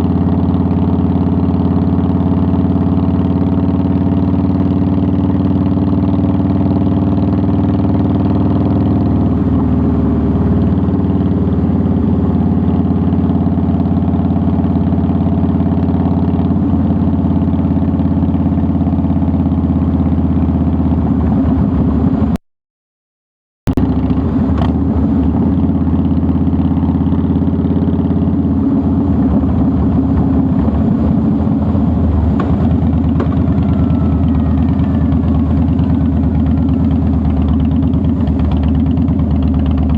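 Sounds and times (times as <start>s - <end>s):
motorcycle engine running: 0.0s - 22.4s, 23.7s - 39.9s.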